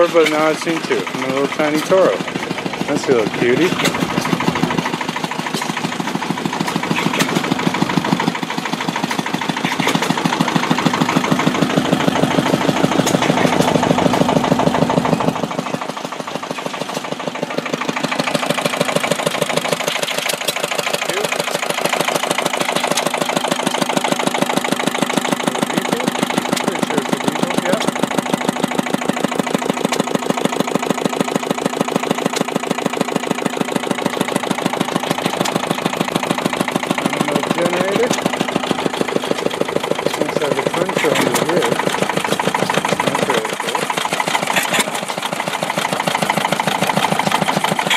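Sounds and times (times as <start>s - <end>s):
small gas engine running: 0.0s - 47.9s.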